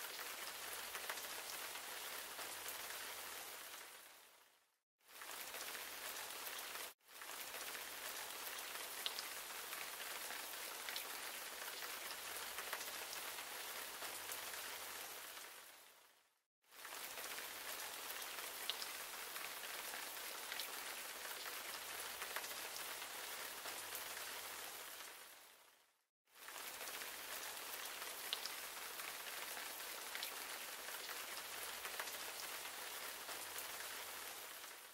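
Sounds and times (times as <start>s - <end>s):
rain-like hiss: 0.0s - 34.9s.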